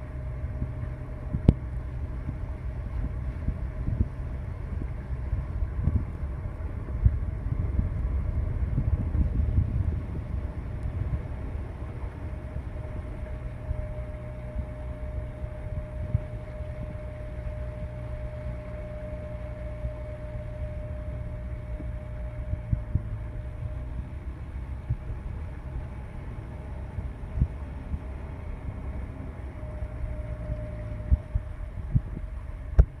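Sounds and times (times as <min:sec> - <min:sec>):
boat motor rumbling: 0:00.0 - 0:33.0
faint steady whine: 0:00.0 - 0:33.0.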